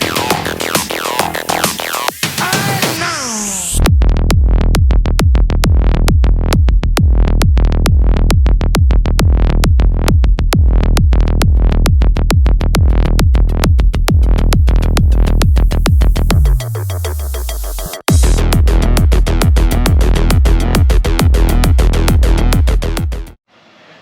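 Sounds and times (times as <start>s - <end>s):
electronic music with drum machine: 0.0s - 23.4s.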